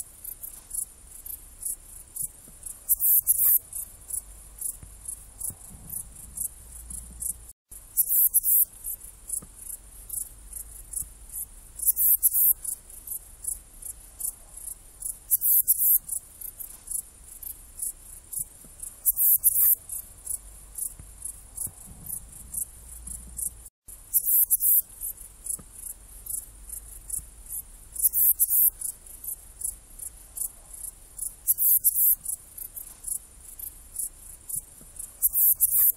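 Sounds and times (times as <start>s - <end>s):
bush cricket chirping: 0.2s - 35.9s.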